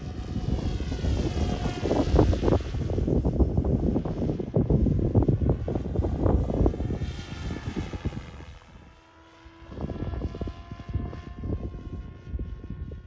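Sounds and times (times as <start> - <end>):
model helicopter whine: 0.0 - 13.0
wind rumble on microphone: 0.0 - 13.0.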